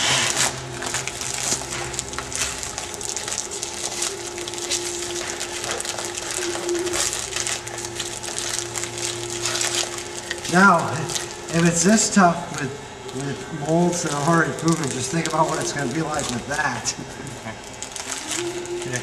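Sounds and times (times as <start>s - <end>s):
plastic film crinkling: 0.0s - 19.0s
steady low hum: 0.0s - 19.0s.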